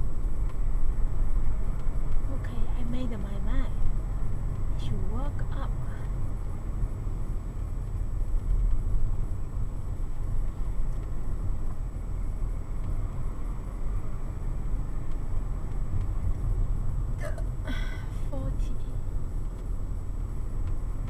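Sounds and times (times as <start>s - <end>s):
car engine rumble: 0.0s - 21.0s
tyres on road: 0.0s - 21.0s.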